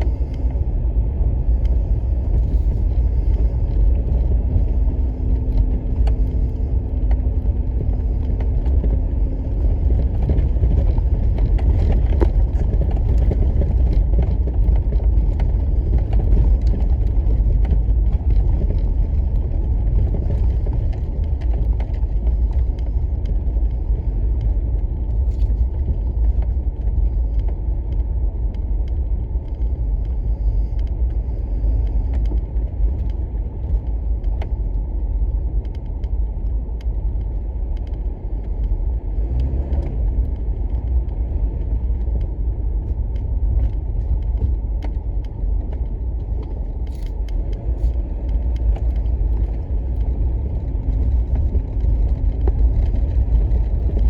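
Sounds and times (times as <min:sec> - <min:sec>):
car cabin road and engine rumble: 0:00.0 - 0:54.0
faint steady hum: 0:00.0 - 0:54.0.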